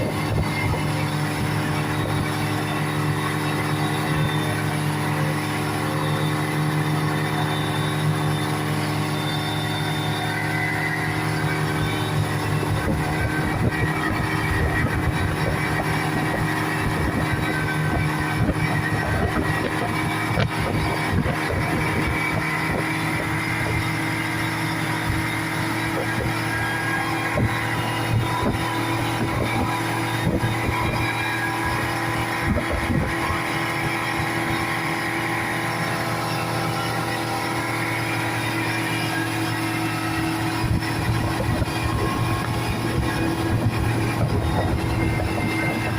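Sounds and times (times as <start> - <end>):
speedboat engine running: 0.0 - 45.9
water splashing: 0.0 - 45.9
wind noise: 0.0 - 45.9.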